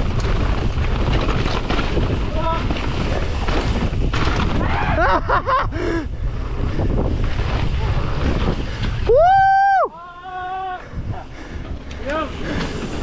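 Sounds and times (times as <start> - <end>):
wind buffeting microphone: 0.0 - 9.9, 10.6 - 13.0
bike tyres rumbling over dirt: 0.0 - 13.0.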